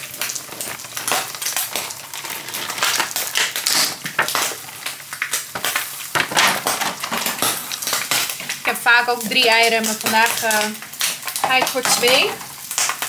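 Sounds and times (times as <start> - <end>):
meat frying in butter: 0.0 - 13.0
plastic egg carton crackling: 0.0 - 13.0.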